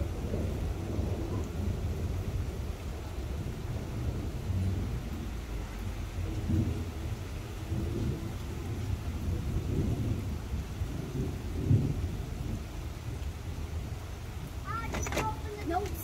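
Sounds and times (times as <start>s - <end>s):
rain falling: 0.0s - 16.0s
thunder rumbling: 0.0s - 16.0s.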